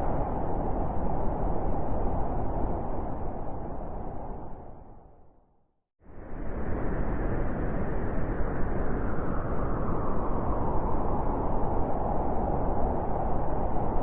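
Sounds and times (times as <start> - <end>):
blizzard wind blowing: 0.0 - 14.0.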